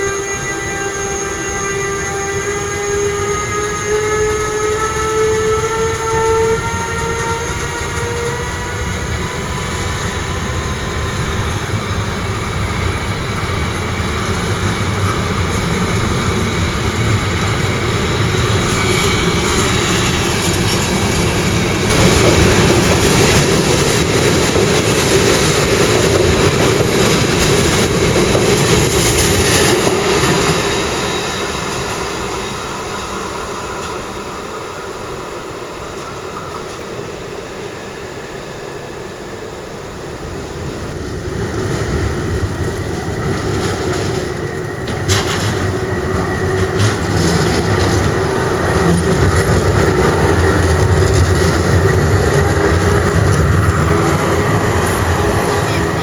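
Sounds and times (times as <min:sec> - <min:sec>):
electric train motor whine: 0:00.0 - 0:56.0
train rail and running noise: 0:00.0 - 0:56.0.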